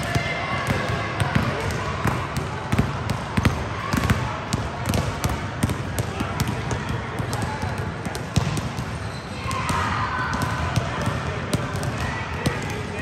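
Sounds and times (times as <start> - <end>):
basketballs bouncing: 0.0 - 13.0.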